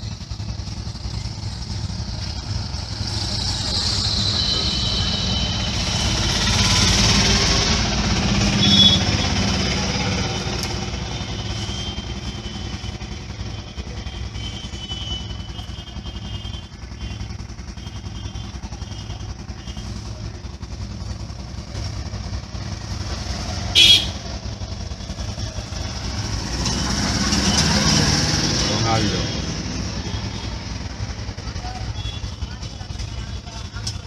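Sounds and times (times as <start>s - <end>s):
street traffic noise: 0.0s - 34.0s.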